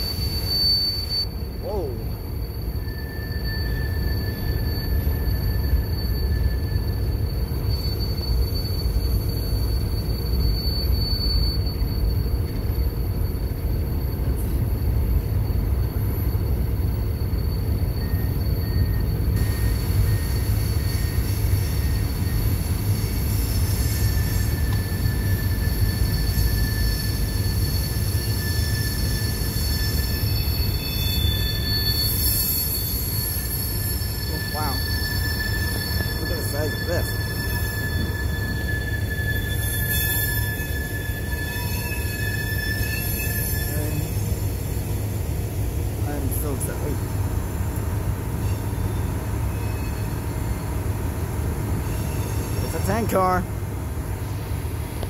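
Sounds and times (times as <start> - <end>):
high-pitched wheel squeal: 0.0 - 53.4
freight cars rumbling on rails: 0.0 - 55.0.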